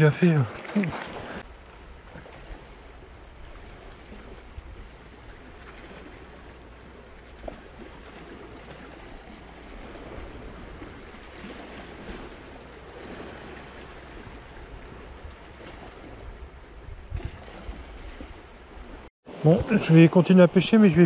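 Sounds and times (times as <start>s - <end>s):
waves lapping against rocks: 0.0s - 19.1s.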